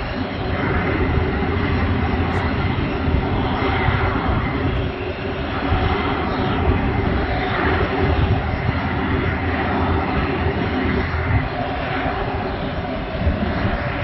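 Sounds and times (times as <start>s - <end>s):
broad uneven rumble: 0.0s - 14.0s
jet turbines whining: 0.0s - 14.0s.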